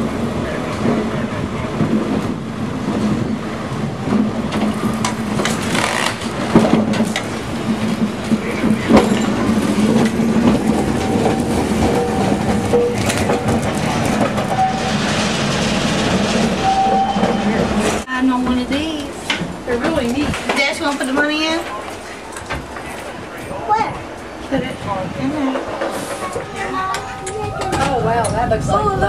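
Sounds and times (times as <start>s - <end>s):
streetcar wheels clicking on rail joints: 0.0s - 29.0s.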